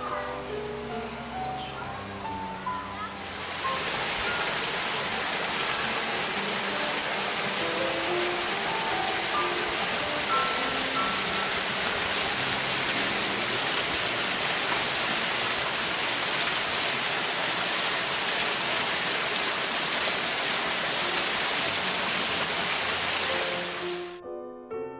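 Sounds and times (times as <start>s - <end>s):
stream splashing down a cascade: 0.8s - 24.2s.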